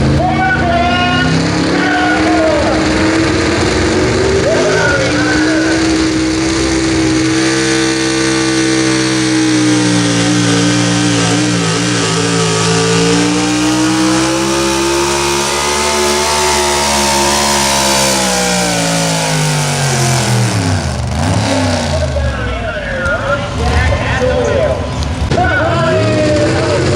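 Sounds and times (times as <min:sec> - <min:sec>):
truck engine running at high revs: 0:00.0 - 0:26.9.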